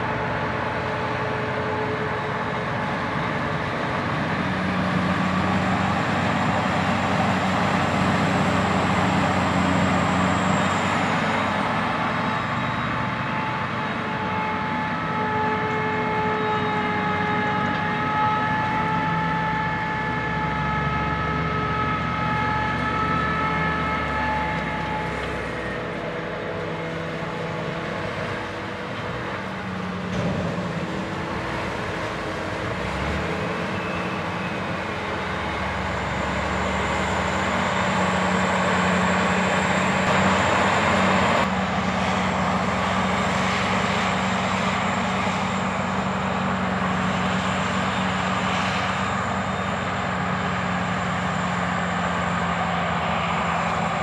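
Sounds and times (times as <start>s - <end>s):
diesel machinery drone: 0.0s - 54.0s.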